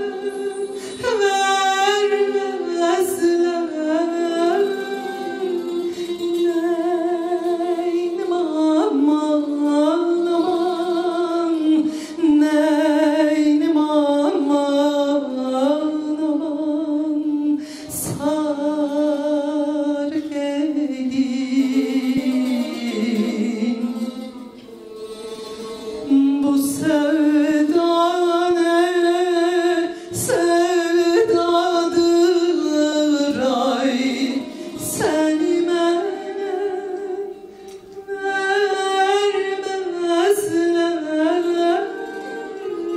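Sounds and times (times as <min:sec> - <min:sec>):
woman singing with vibrato: 0:00.0 - 0:42.9.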